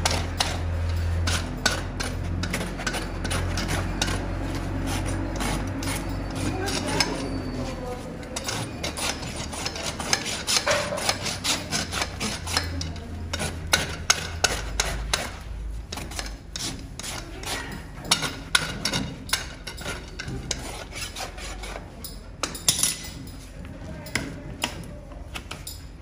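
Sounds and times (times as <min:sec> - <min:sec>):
rasp filing a hoof: 0:00.0 - 0:22.6.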